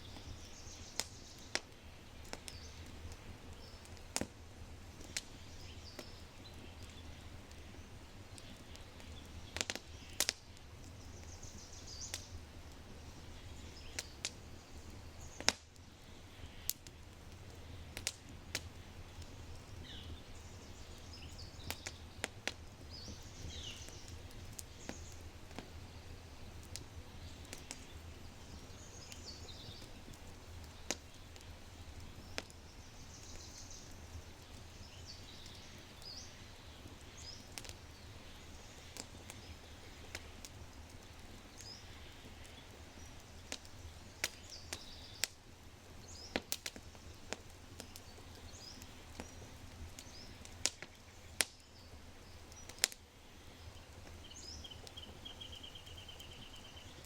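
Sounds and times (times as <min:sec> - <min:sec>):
birds singing: 0:00.0 - 0:01.7, 0:02.3 - 0:04.0, 0:05.0 - 0:16.8, 0:17.5 - 0:57.0
fire crackling and popping: 0:00.0 - 0:57.0.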